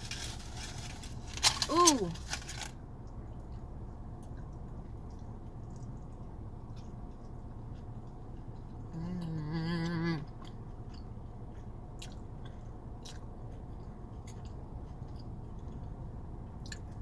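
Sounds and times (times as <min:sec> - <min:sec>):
person chewing food: 0:03.1 - 0:17.0.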